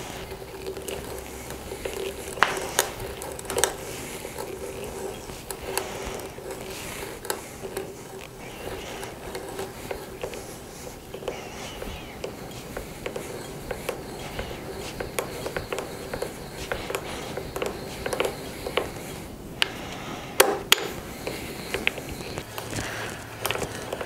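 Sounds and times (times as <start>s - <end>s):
drill boring through wood: 0.0s - 19.4s.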